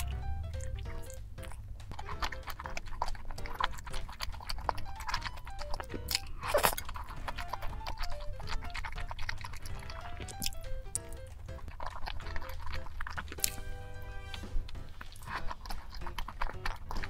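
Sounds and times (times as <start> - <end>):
soft background music: 0.0 - 17.0
wet chewing and crackly clicks: 0.0 - 17.0.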